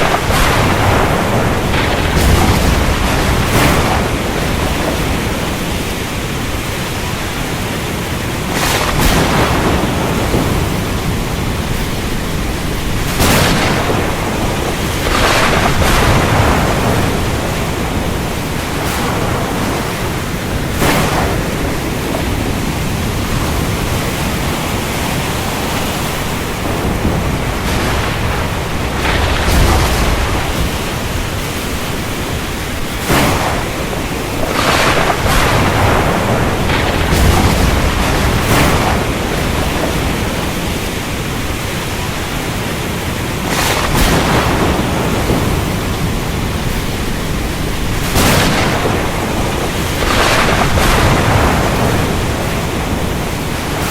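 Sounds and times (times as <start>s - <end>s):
heavy rain: 0.0s - 53.9s
low thunder rumble: 0.0s - 53.9s
sharp thunderclaps: 0.0s - 53.9s.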